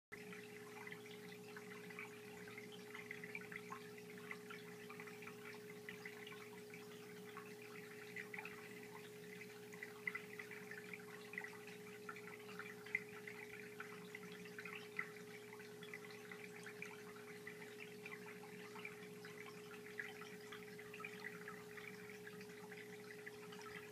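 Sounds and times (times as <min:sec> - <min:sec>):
filter humming: 0:00.1 - 0:23.9
water trickling: 0:00.1 - 0:23.9.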